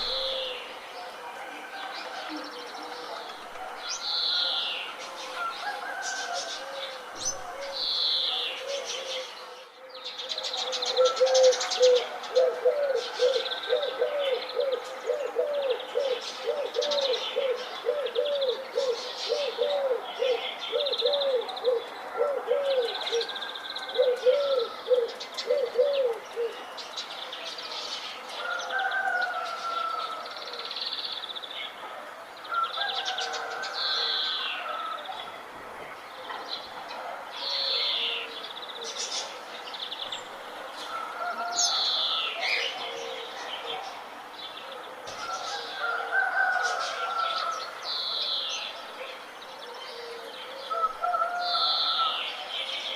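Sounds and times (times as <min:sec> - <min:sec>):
birds chirping and singing: 0:00.0 - 0:31.8, 0:36.1 - 0:52.9.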